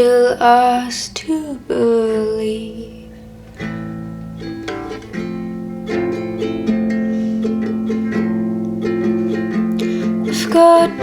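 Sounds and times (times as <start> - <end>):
plucked guitar notes: 1.7 - 11.0.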